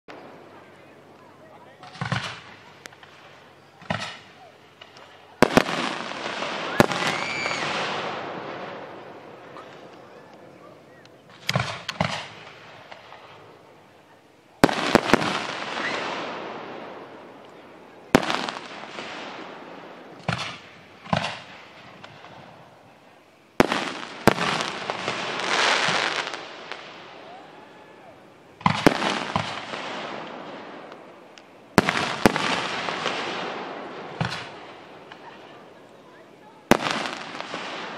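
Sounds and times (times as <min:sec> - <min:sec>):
firework bangs: 0:00.1 - 0:13.8, 0:14.6 - 0:35.8, 0:36.4 - 0:37.9
firework crackle: 0:00.1 - 0:37.9.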